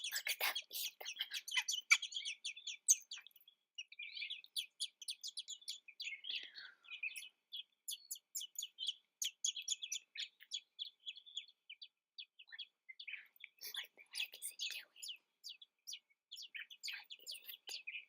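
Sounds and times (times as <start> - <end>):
nestlings chirping: 0.0 - 18.0.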